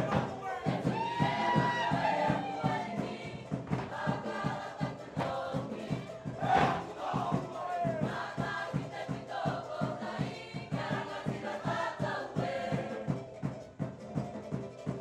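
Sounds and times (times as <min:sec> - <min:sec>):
group of voices singing: 0:00.0 - 0:13.3
fast drum beat: 0:00.0 - 0:15.0.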